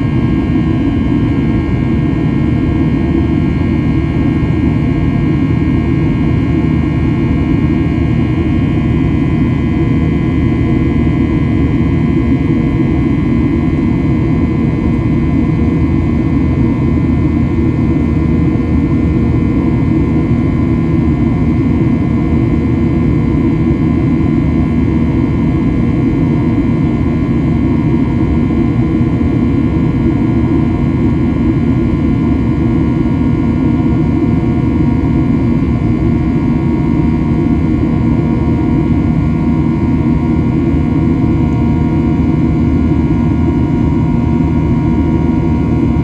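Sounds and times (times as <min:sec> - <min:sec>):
jet engine cabin drone: 0:00.0 - 0:46.0.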